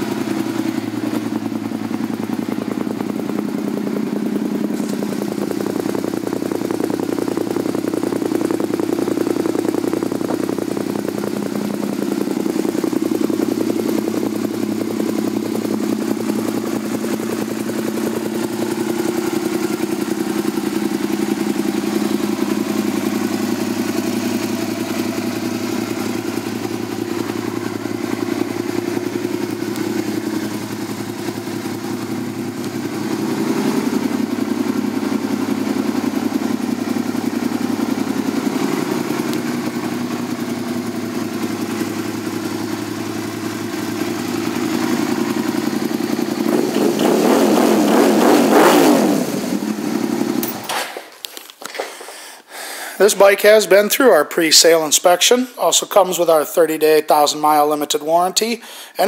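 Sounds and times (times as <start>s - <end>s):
motorcycle engine idling: 0.0s - 50.8s, 53.0s - 59.0s.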